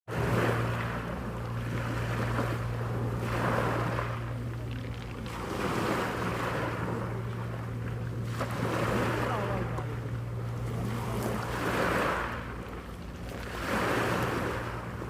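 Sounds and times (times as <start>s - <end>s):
sea waves washing in: 0.1s - 15.0s
steady low hum: 0.1s - 15.0s.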